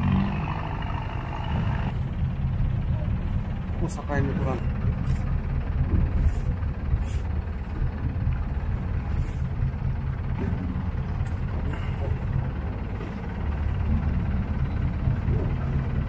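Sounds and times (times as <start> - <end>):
boat motor rumbling: 0.0 - 16.0
wind: 0.0 - 16.0.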